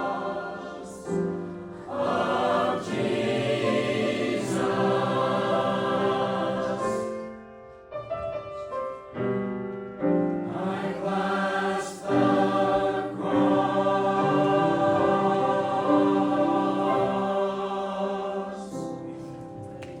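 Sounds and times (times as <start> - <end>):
choir singing a hymn: 0.0 - 7.5, 10.3 - 19.5.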